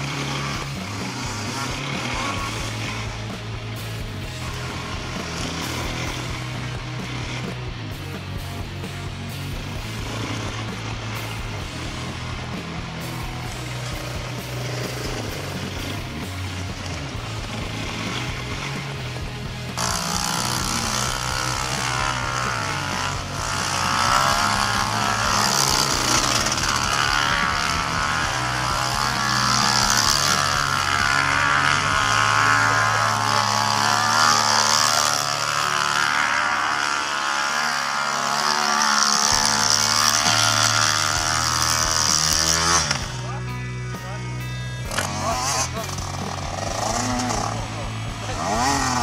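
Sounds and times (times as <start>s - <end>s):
background music with bass line: 0.0s - 49.0s
quad bike engine running: 0.0s - 49.0s.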